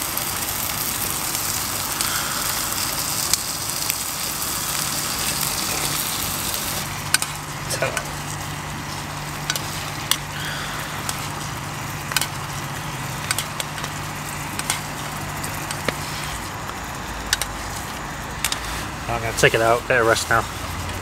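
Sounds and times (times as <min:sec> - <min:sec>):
steak sizzling in a pan: 0:00.0 - 0:20.8.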